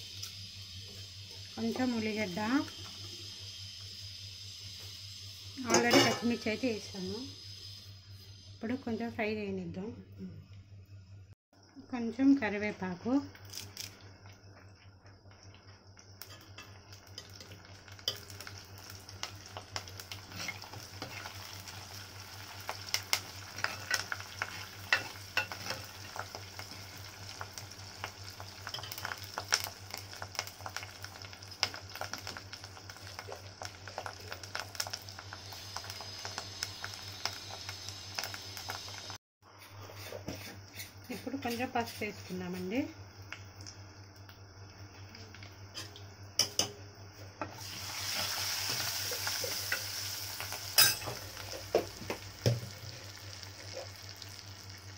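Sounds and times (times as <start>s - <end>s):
food sizzling in hot oil: 0.0s - 9.4s, 11.6s - 39.2s, 39.9s - 54.9s.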